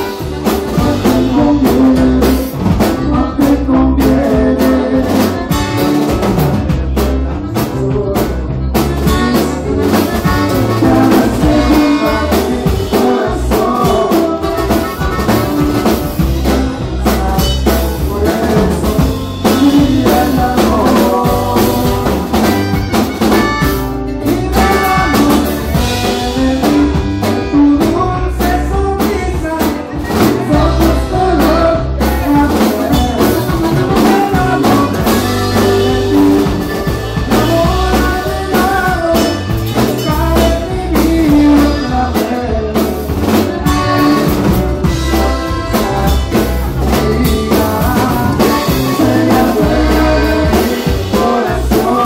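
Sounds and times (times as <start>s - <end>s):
bass guitar: 0.0s - 52.0s
drum kit beat: 0.0s - 52.0s
electric guitars: 0.0s - 52.0s
person singing: 0.0s - 52.0s.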